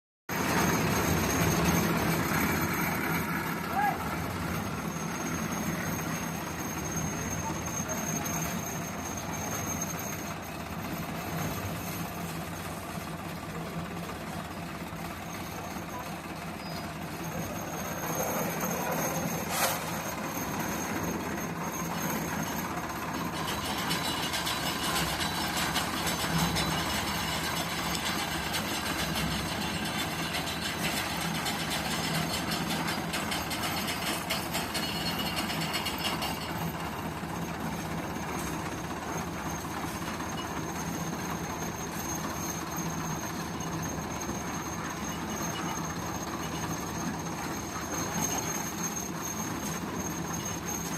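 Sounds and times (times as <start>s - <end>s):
concrete mixer rumbling and rattling: 0.3s - 50.9s.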